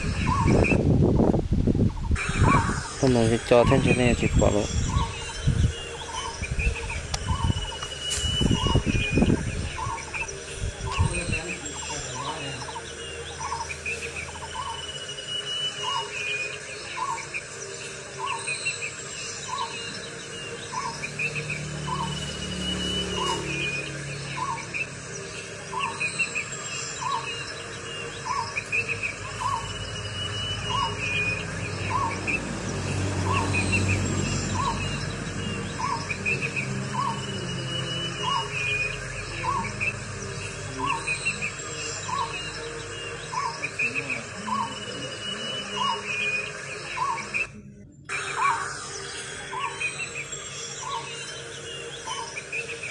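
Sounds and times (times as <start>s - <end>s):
bird repeating low note: 0.0s - 52.9s
birds chirping: 0.0s - 52.9s
insects: 0.0s - 52.9s.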